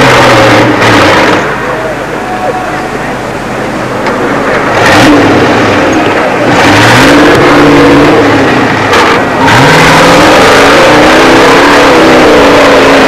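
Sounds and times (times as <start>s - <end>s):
car engine revving hard: 0.0s - 2.2s, 2.9s - 13.0s.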